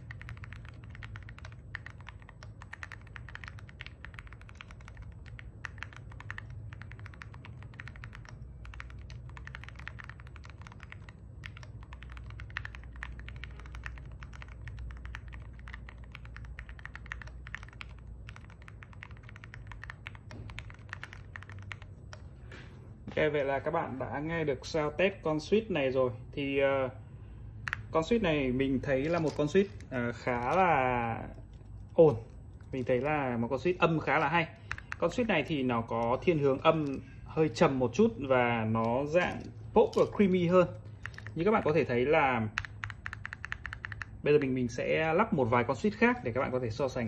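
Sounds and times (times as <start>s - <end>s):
typing on mechanical keyboard: 0.0s - 22.4s, 27.6s - 28.2s, 29.0s - 46.2s.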